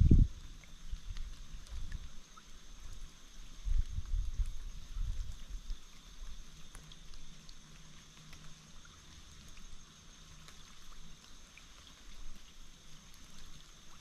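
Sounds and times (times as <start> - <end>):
thin high hum: 0.0 - 14.0
water dripping from trees: 0.0 - 14.0.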